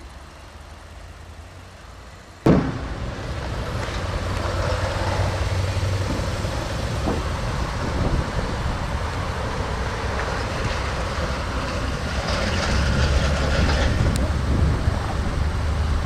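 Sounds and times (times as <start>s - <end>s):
low car engine hum: 0.0s - 16.0s
road noise: 0.0s - 16.0s.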